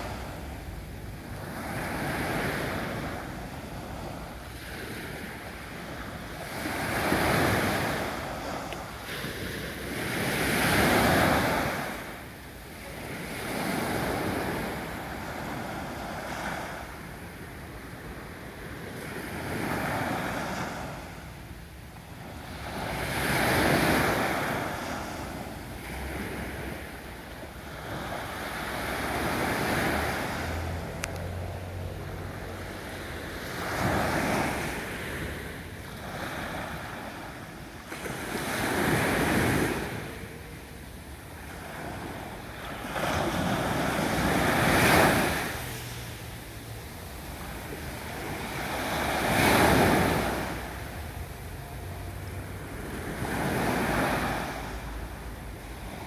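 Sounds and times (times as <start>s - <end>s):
small waves washing on beach: 0.0s - 56.0s.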